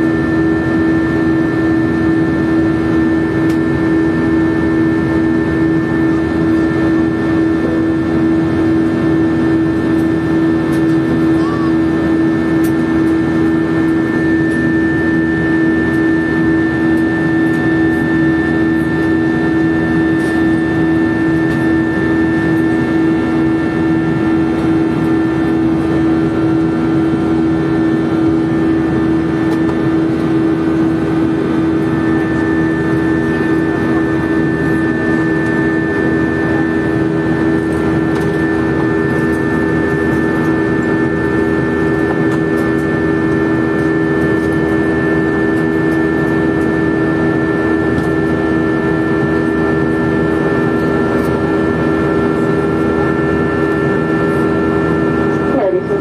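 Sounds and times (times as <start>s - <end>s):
high engine whine: 0.0s - 56.0s
jet engines droning: 0.0s - 56.0s.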